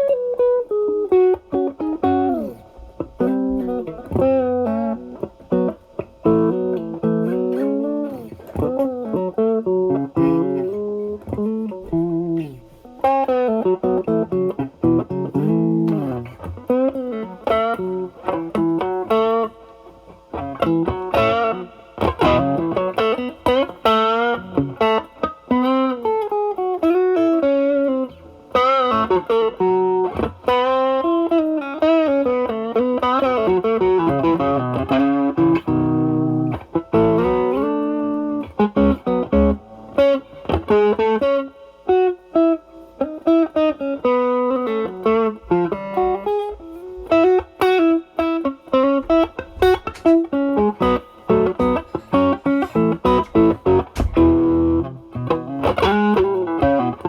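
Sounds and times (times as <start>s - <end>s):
overdriven electric guitar blues: 0.0s - 57.0s.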